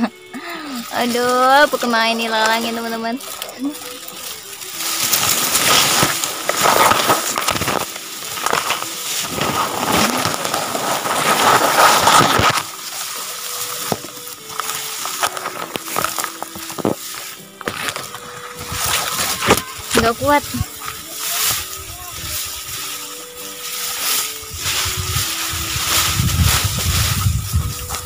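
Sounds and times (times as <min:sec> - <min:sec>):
crackles: 0:00.0 - 0:28.0
grass rustling against microphone: 0:00.0 - 0:28.0.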